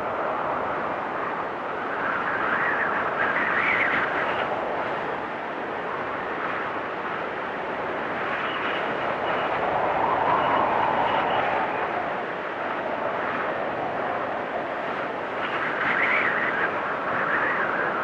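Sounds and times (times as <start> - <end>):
whistling wind gust: 0.0 - 18.0.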